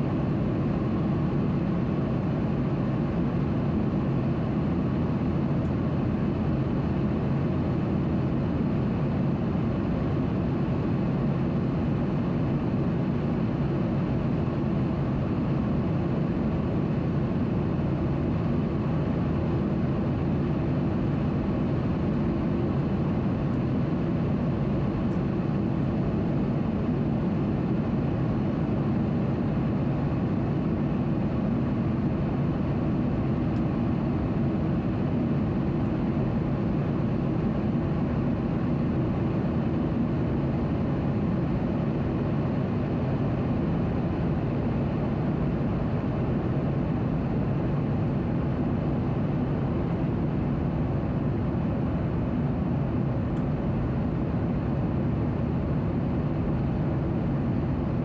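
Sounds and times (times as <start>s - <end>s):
airflow rushing over airplane: 0.0s - 58.0s
jet engines droning: 0.0s - 58.0s.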